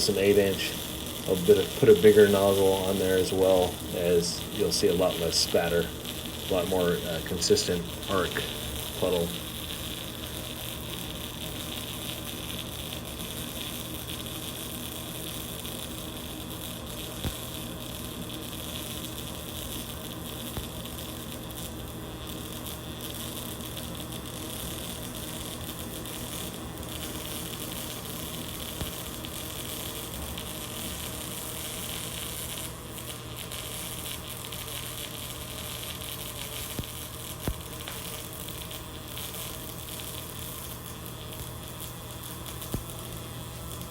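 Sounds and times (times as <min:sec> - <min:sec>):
welding arc sizzling buzz: 0:00.0 - 0:43.9
welding spatter pops: 0:00.0 - 0:43.9.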